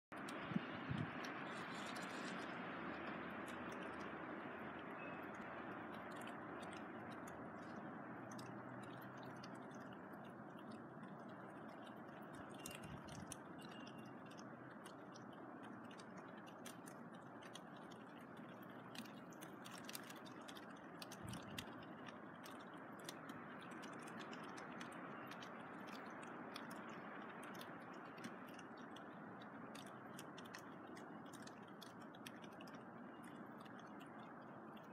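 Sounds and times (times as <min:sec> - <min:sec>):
outdoor background noise: 0:00.1 - 0:34.9
light ticks: 0:00.2 - 0:34.9.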